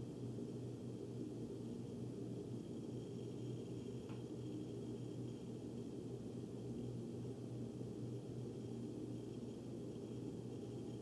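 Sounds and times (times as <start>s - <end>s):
furnace ductwork hum: 0.0s - 11.0s.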